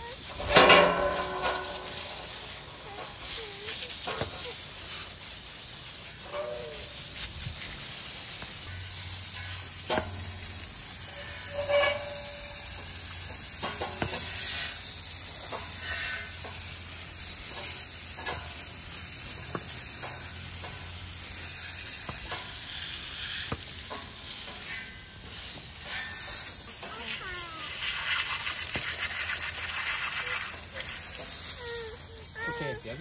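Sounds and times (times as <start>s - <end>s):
hose nozzle spraying water: 0.0s - 33.0s.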